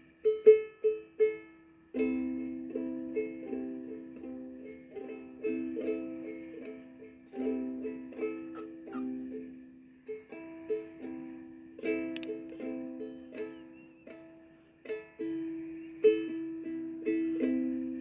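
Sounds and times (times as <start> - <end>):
ukulele-like plucked tune: 0.0 - 18.0.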